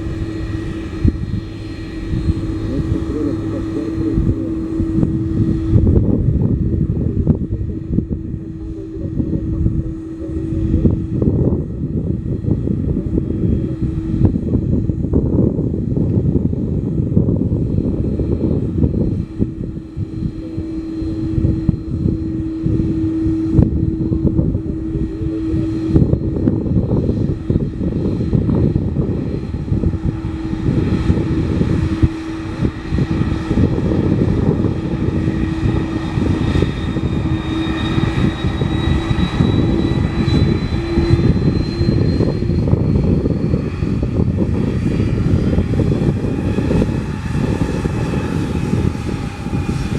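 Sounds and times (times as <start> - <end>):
high engine whine: 0.0 - 49.9
jet engines rumbling: 0.0 - 49.9.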